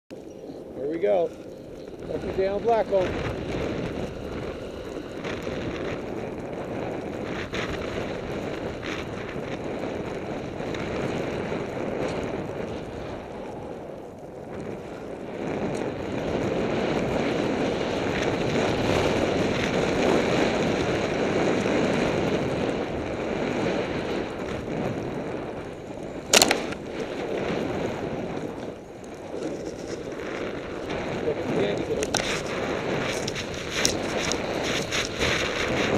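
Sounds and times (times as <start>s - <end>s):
wind rushing over microphone: 0.1s - 35.9s
snowboard sliding over snow: 0.6s - 35.9s.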